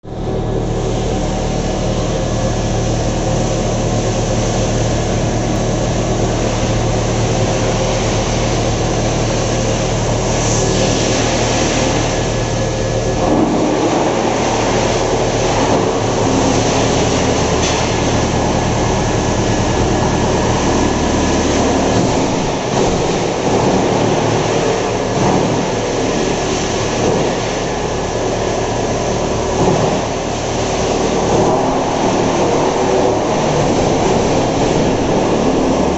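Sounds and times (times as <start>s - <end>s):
wood chipper running: 0.0s - 35.9s.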